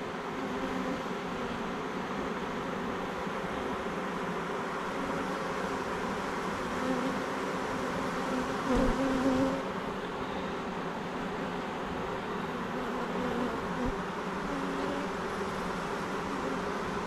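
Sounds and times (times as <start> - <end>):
honeybees humming around hive: 0.0 - 17.0
single bee buzzing close: 0.2 - 17.0.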